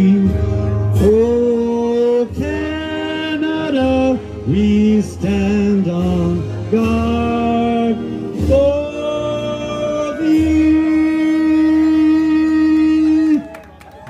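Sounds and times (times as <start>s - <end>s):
man singing into microphone: 0.0s - 13.5s.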